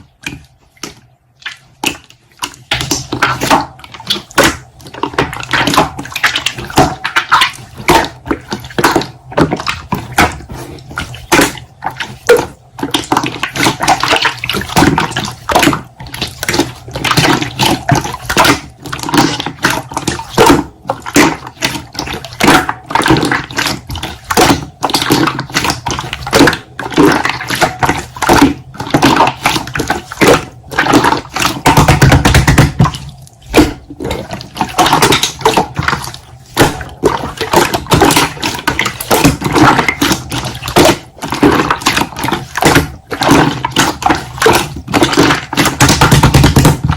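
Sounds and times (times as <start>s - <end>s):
slime squelching by hand: 0.0s - 46.9s.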